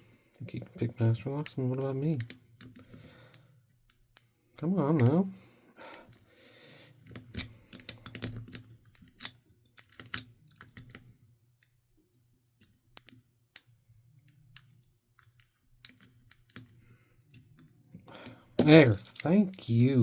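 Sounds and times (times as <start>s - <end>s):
lock pick clicking and scraping: 1.0s - 4.4s, 5.0s - 11.8s, 12.6s - 19.8s.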